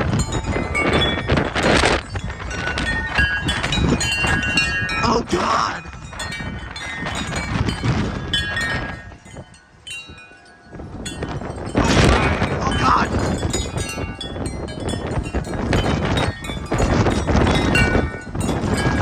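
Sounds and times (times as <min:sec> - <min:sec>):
wind buffeting microphone: 0:00.0 - 0:19.0
wind chimes ringing: 0:00.0 - 0:19.0.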